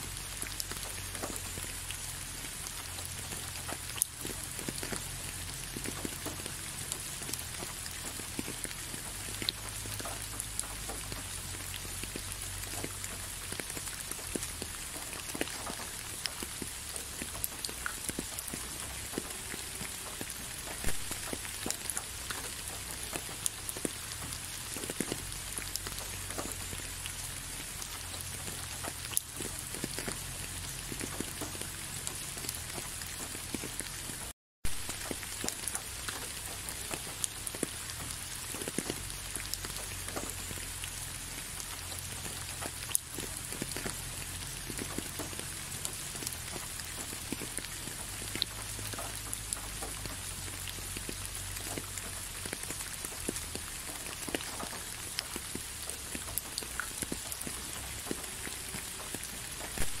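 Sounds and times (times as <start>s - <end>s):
raindrops clicking close by: 0.0s - 60.0s
steady rain falling: 0.0s - 60.0s.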